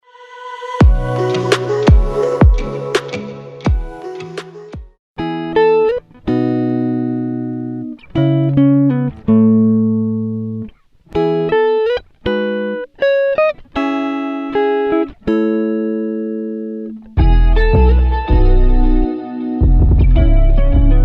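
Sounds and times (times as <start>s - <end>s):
plucked guitar chords: 0.8s - 21.0s.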